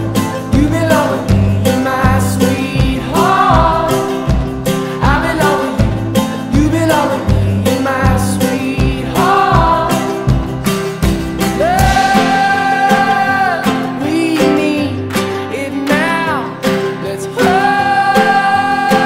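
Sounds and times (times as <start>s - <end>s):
pop song with drum beat and singing: 0.0s - 19.0s.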